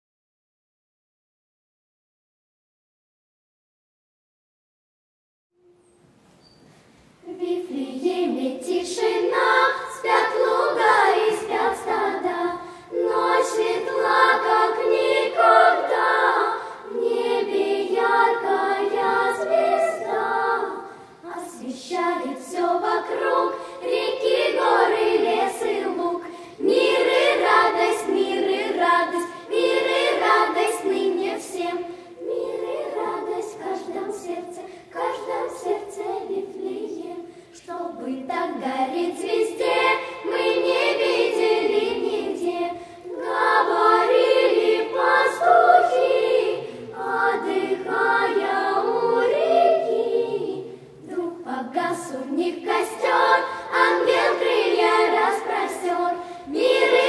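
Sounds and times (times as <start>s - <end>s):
children's choir singing a carol: 7.2s - 57.0s.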